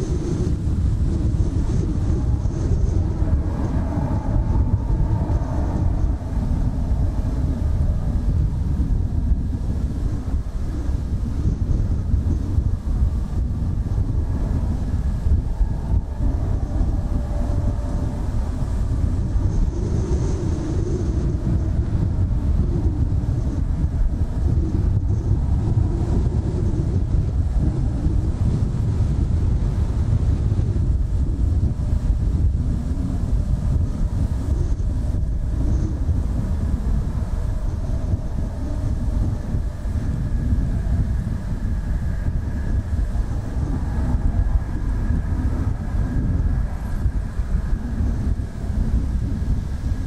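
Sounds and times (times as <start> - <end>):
high engine whine: 0.0 - 50.0
jets taxiing low rumble: 0.0 - 50.0
wind buffeting microphone: 0.0 - 50.0.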